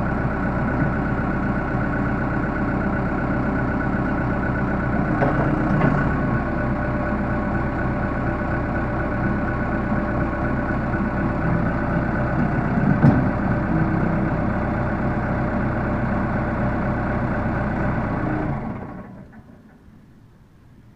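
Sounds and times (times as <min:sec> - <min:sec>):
diesel engine idling: 0:00.0 - 0:20.8.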